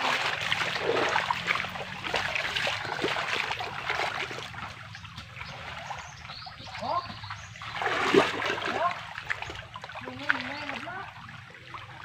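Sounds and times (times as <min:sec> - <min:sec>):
creek water sloshing and trickling: 0:00.0 - 0:12.0
splashing in water: 0:00.0 - 0:12.0.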